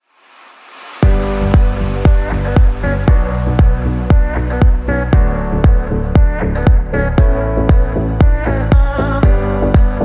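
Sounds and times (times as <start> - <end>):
electronic dance music: 0.5 - 10.0
heavy kick drum: 1.0 - 10.0.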